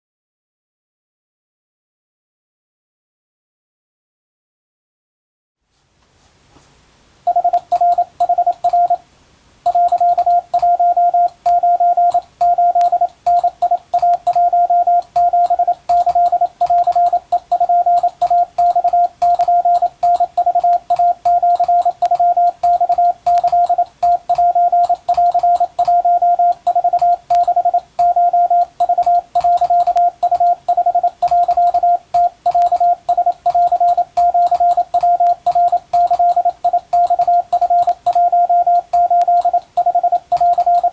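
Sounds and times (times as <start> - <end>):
morse code beeps: 7.3 - 9.0, 9.7 - 40.9.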